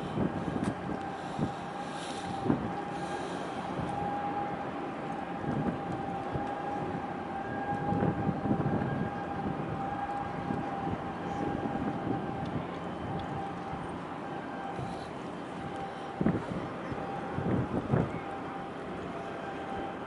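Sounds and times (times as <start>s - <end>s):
distant ship engine drone: 0.0s - 20.0s
steady high whine: 0.0s - 20.0s
wind rumble on microphone: 0.0s - 20.0s.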